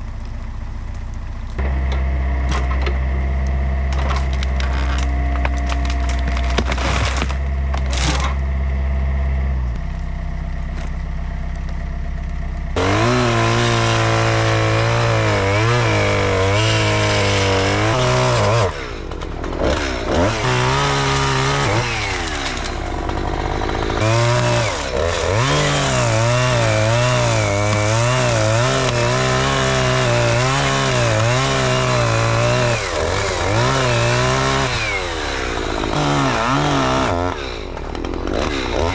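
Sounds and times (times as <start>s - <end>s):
low engine hum: 0.0s - 38.9s
chainsaw cutting wood: 1.6s - 8.5s, 12.8s - 38.9s.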